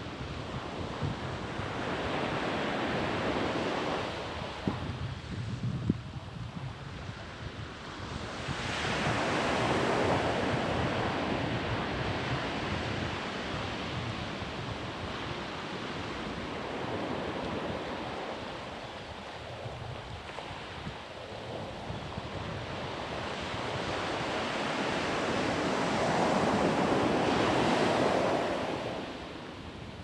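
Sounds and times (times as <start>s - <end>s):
waves breaking on a beach: 0.0s - 30.0s
wind rumble on microphone: 0.0s - 30.0s.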